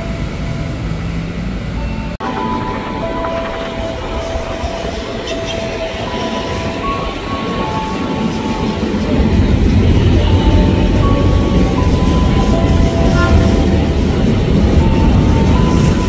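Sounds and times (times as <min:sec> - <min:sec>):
electric train rumbling: 0:00.0 - 0:16.0
thin steady tones: 0:01.8 - 0:16.0.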